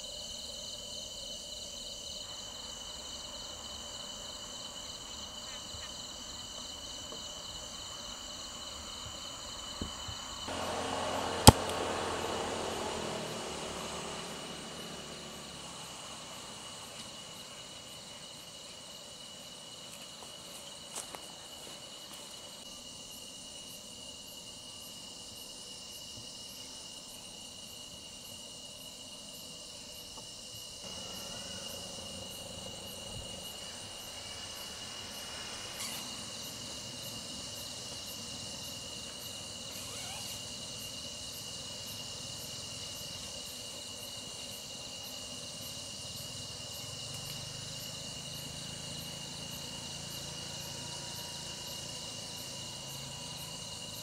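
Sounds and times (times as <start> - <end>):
insects chirring: 0.0 - 54.0.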